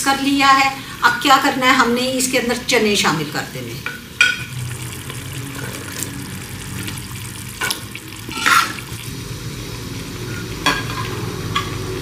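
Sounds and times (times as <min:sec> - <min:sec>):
food sizzling in ghee: 0:00.0 - 0:12.0.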